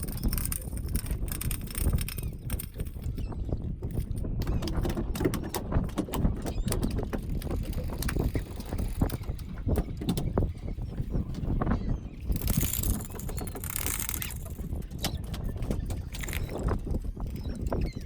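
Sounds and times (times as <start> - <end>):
boat engine and hull rumble: 0.0 - 18.0
knocks and rattles: 0.0 - 18.0.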